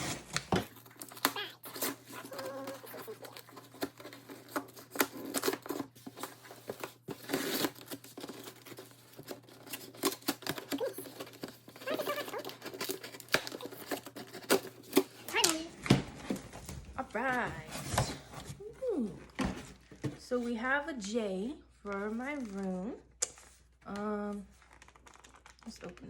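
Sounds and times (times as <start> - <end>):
cardboard packaging being opened: 0.0 - 18.6, 22.0 - 26.0.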